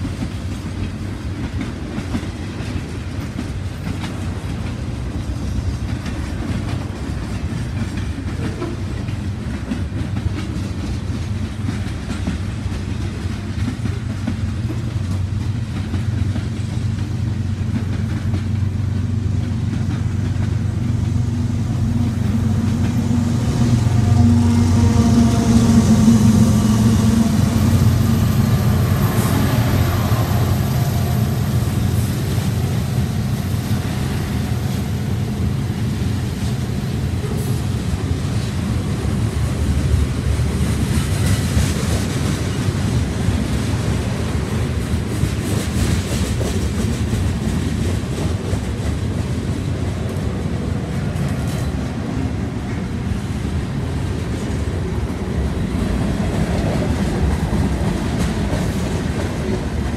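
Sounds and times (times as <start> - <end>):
diesel locomotive engine drone: 0.0 - 59.9
steel wheels clattering on rail: 0.0 - 59.9.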